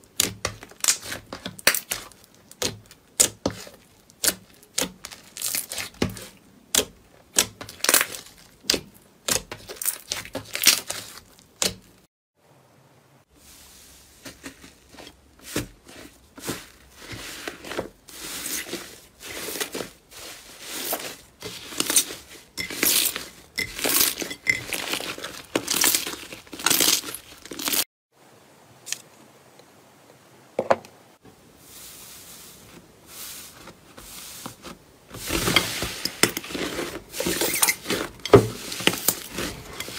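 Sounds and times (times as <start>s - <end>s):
slime squelching: 0.0s - 12.1s, 14.1s - 27.8s, 32.0s - 39.9s.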